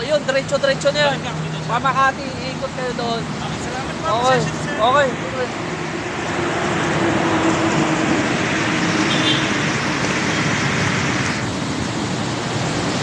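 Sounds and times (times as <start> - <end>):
heavy rain: 0.0 - 13.0
road traffic: 0.0 - 13.0.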